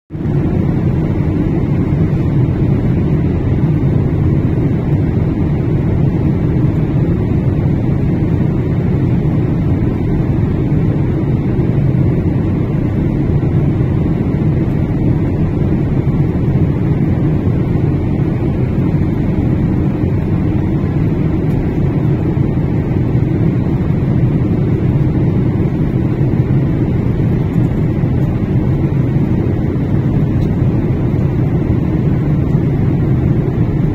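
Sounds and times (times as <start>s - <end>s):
airliner cabin engine rumble: 0.1s - 33.9s.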